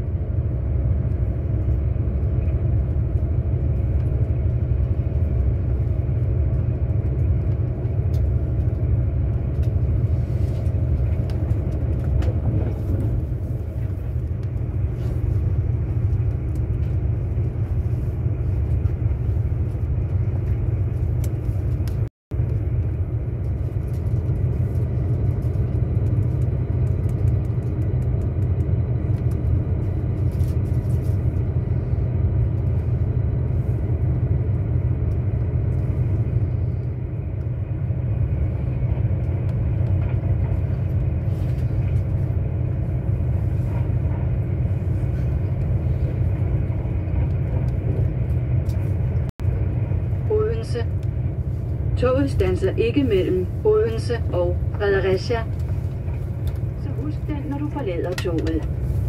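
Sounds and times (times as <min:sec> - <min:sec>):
train rumble inside carriage: 0:00.0 - 0:59.0.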